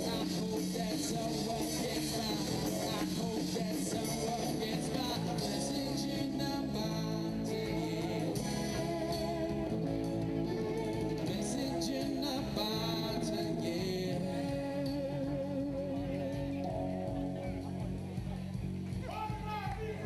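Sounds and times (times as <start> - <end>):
electric guitars: 0.0 - 20.0
live band playing: 0.0 - 20.0.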